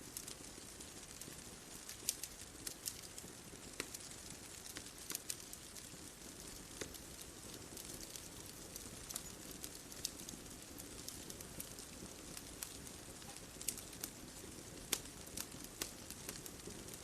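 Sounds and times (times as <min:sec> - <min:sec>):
burning wood popping and snapping: 0:00.0 - 0:17.0
low rumble of flames: 0:00.0 - 0:17.0.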